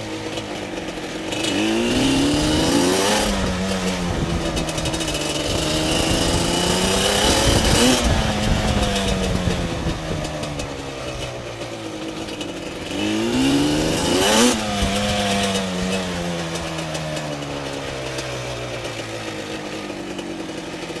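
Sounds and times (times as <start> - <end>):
engine revving: 0.0 - 20.2.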